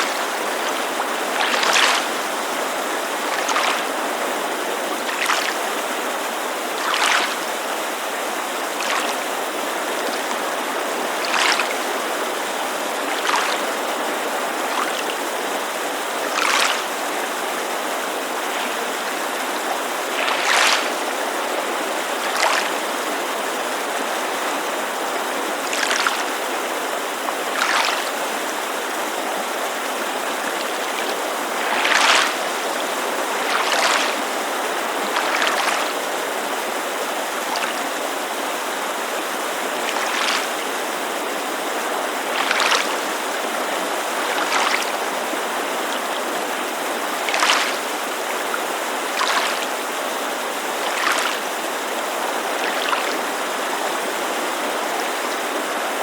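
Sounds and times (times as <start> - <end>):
lake waves lapping on shore: 0.0 - 56.0
mountain creek rushing: 0.0 - 56.0.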